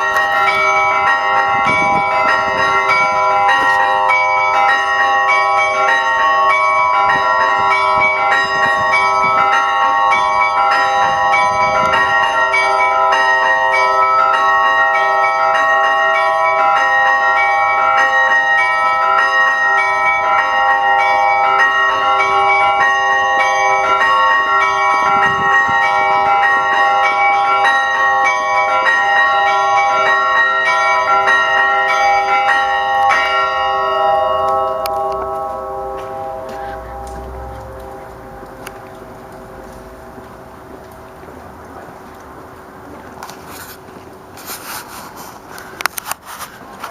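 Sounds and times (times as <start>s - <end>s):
church bells pealing: 0.0s - 43.8s.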